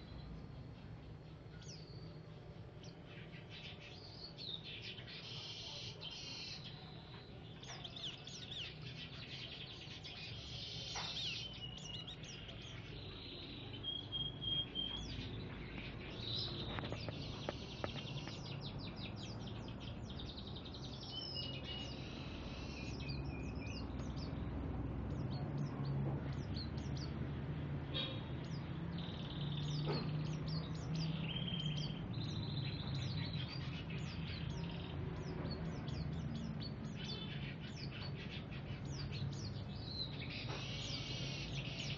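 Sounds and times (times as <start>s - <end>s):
songbird singing: 0.0s - 41.9s.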